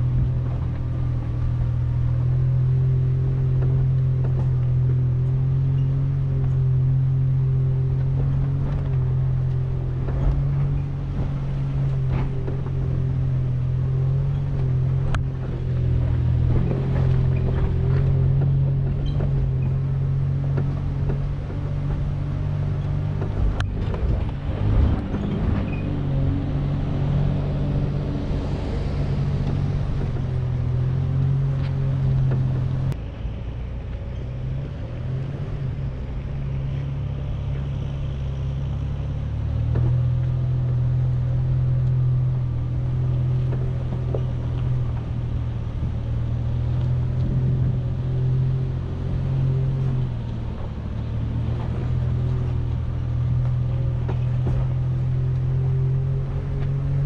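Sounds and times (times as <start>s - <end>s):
pickup engine running: 0.0s - 57.0s.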